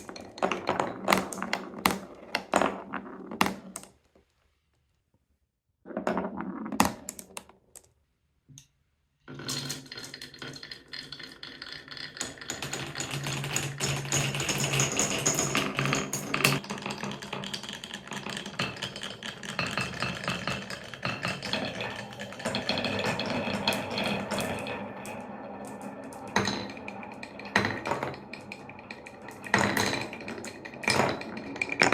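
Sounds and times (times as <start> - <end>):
marbles rattling down wooden run: 0.0 - 4.0, 9.4 - 31.9.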